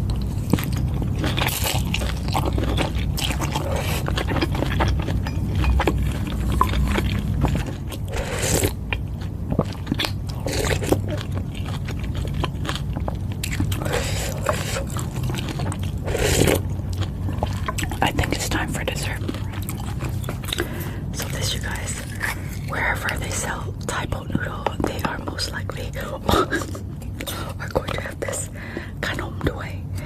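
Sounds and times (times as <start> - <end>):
chewing noodles: 0.0 - 28.8
low hum: 0.0 - 30.0.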